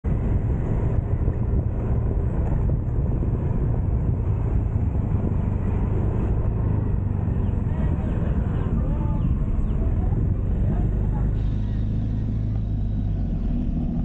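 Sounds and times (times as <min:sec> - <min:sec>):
wind rumble on microphone: 0:00.0 - 0:14.0
motorcycle engine running: 0:00.1 - 0:14.0.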